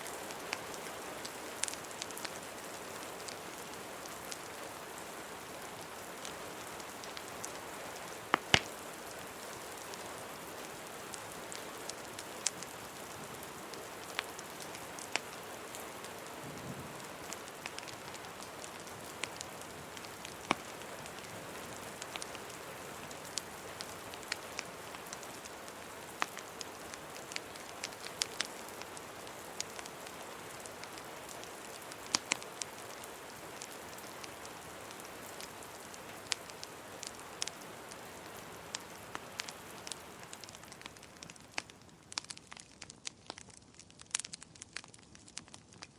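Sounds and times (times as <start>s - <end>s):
steady rain falling: 0.0s - 45.9s
wood fire crackling and popping: 0.0s - 45.9s.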